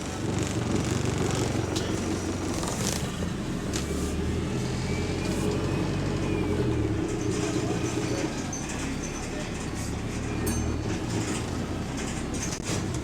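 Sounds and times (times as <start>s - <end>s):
bus engine running: 0.0s - 13.0s.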